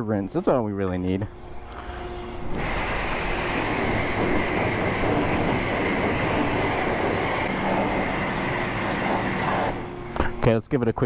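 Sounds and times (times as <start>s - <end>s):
pressure washer spraying water: 1.4s - 10.4s.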